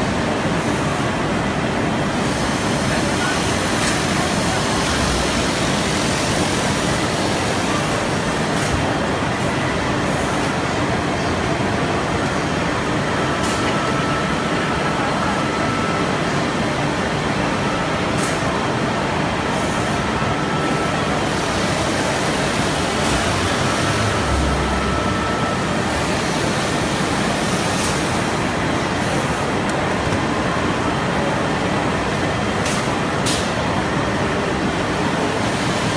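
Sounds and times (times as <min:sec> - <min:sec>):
machine running mechanical noise: 0:00.0 - 0:35.9.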